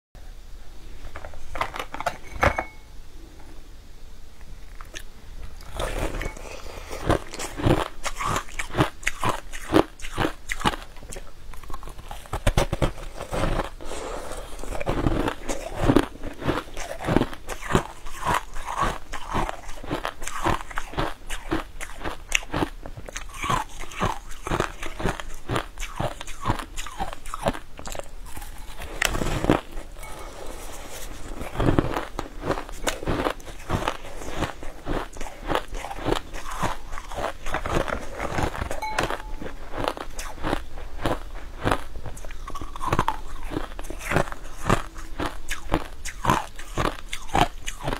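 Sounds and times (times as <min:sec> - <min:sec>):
crunchy chewing: 0:04.4 - 0:47.9.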